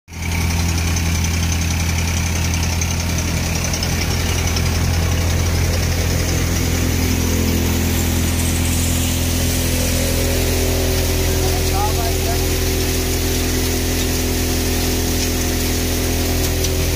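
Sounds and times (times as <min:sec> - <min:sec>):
tractor diesel engine under load: 0:00.1 - 0:16.9
thresher drum and fans whirring: 0:00.2 - 0:16.9.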